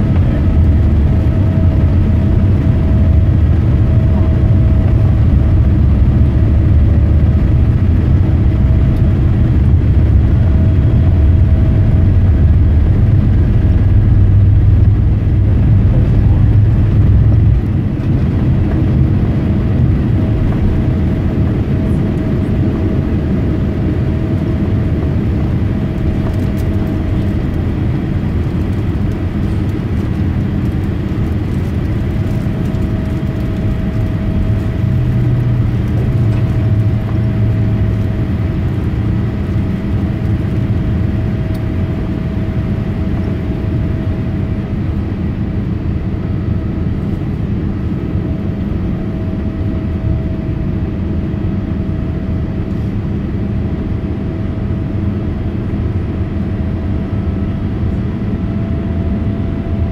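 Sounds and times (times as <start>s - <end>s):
jet engines at takeoff thrust: 0.0s - 59.9s
low rumble of takeoff roll: 0.0s - 59.9s.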